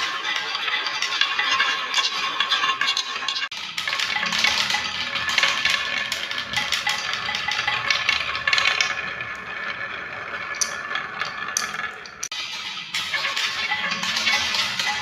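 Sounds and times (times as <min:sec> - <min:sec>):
marbles rattling down a track: 0:00.0 - 0:15.0.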